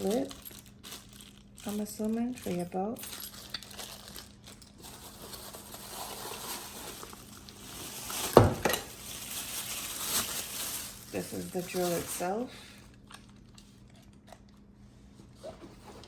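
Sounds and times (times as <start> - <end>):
plastic packaging rustling: 0.0 - 13.8.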